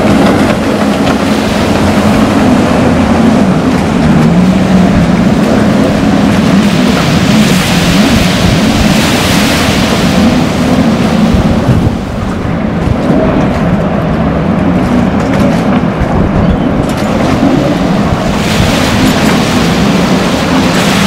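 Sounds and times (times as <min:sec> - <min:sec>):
boat motor droning: 0:00.0 - 0:21.0
water rushing past hull: 0:00.0 - 0:21.0
wind buffeting microphone: 0:00.0 - 0:21.0.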